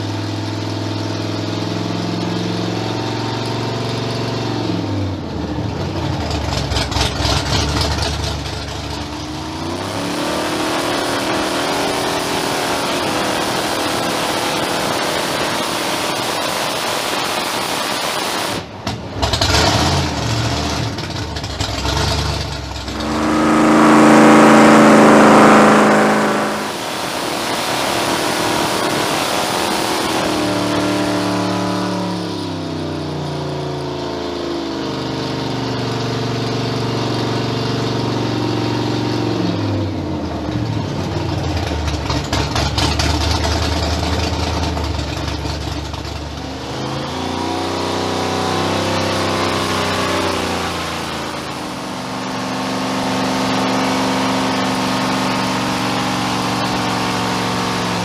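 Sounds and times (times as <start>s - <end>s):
engine revving on dyno: 0.0s - 58.0s.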